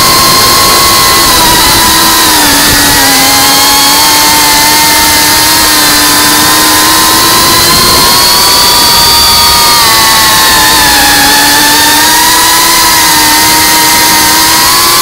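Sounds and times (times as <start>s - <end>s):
drone motors whining: 0.0s - 15.0s
wind noise: 0.0s - 15.0s.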